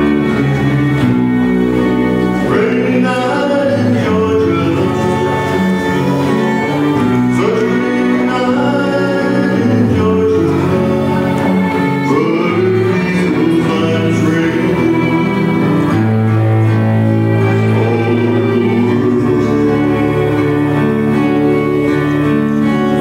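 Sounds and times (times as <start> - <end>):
acoustic guitar: 0.0 - 23.0
electric guitar: 0.0 - 23.0
fiddle melody: 0.0 - 23.0
upright bass: 0.0 - 23.0.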